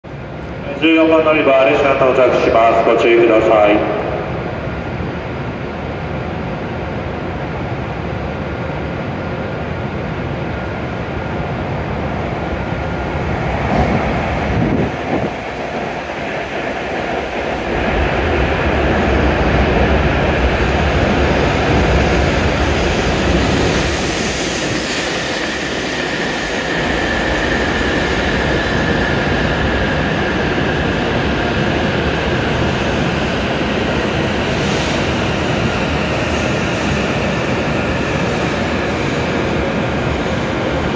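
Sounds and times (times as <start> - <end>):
train pulling in: 0.0 - 40.9.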